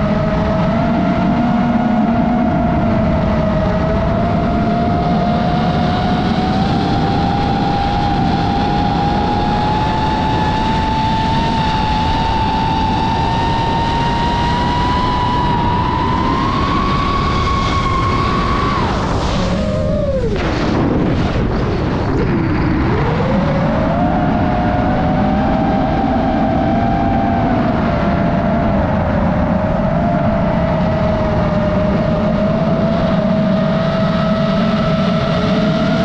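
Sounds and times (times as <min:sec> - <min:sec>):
drone motors whining: 0:00.0 - 0:20.6, 0:22.1 - 0:36.0
constant rushing noise: 0:00.0 - 0:36.0.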